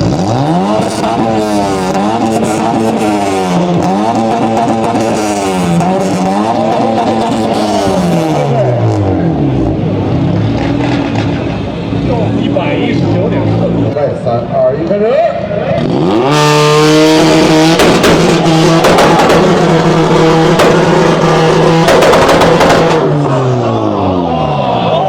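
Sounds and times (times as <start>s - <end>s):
car engine revving hard: 0.0s - 11.5s, 15.8s - 24.3s.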